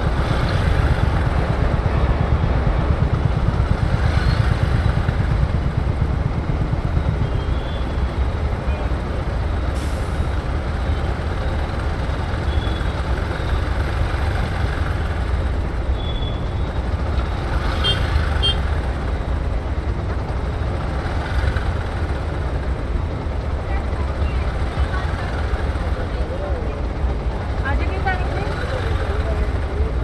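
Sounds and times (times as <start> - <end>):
motorcycle engine rumble: 0.0 - 30.0.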